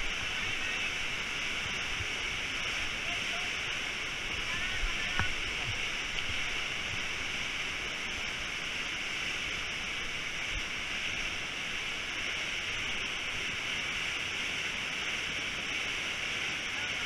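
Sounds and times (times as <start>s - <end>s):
whitewater pouring over waterfall: 0.0s - 17.0s.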